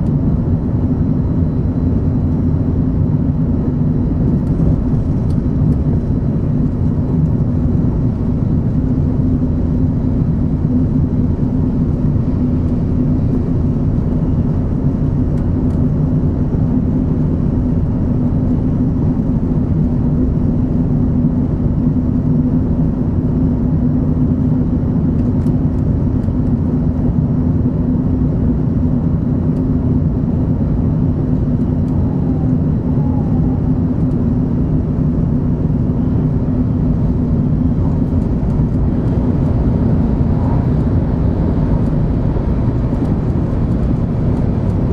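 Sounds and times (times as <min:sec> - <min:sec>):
train running rumble and hum: 0:00.0 - 0:44.9.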